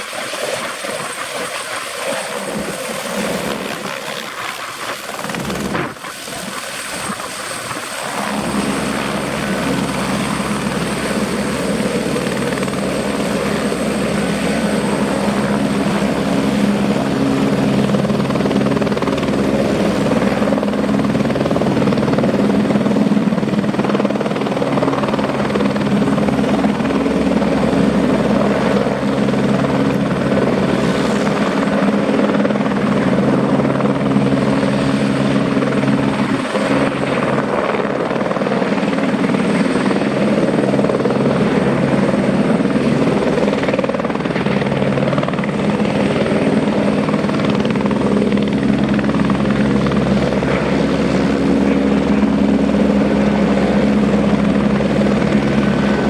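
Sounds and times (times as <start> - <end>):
helicopter rotor and engine drone: 0.0 - 56.0
high-pitched turbine whine: 0.0 - 56.0.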